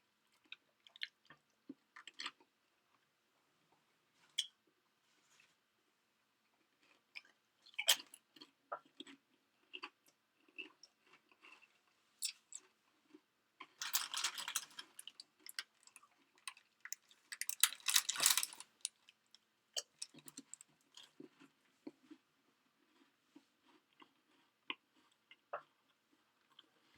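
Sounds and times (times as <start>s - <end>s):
crunchy snack being chewed: 0.3s - 3.0s, 6.6s - 19.2s, 19.8s - 26.9s.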